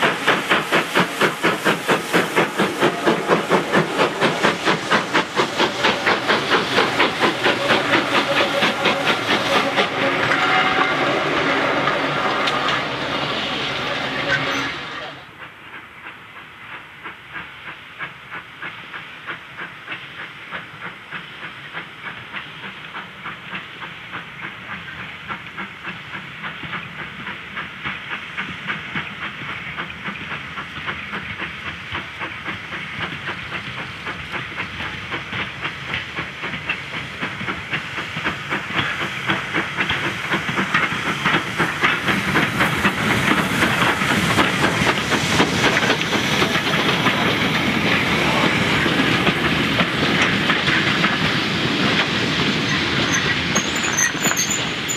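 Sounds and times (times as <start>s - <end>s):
steam locomotive chuffing: 0.0s - 54.9s.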